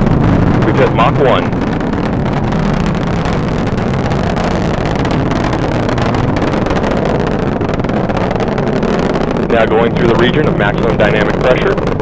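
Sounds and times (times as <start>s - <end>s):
rocket engine roaring and crackling: 0.0s - 12.0s.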